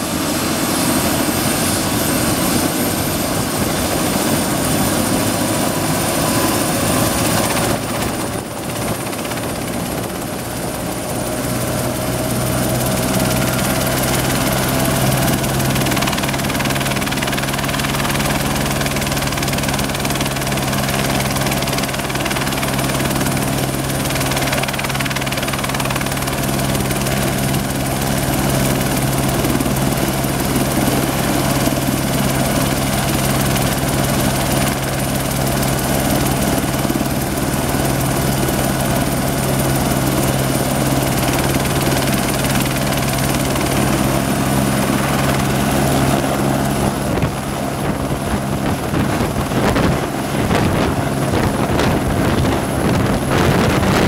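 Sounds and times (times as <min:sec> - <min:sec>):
helicopter turbine whine and rotor: 0:00.0 - 0:54.0.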